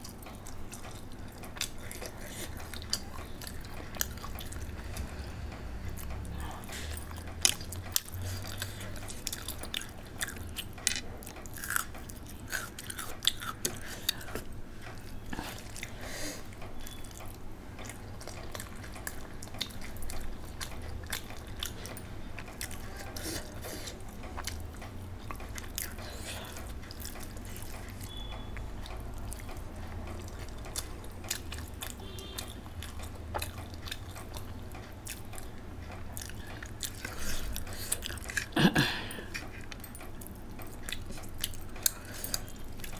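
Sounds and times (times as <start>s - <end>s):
low steady hum: 0.0s - 42.9s
person chewing with wet clicks: 0.0s - 42.9s.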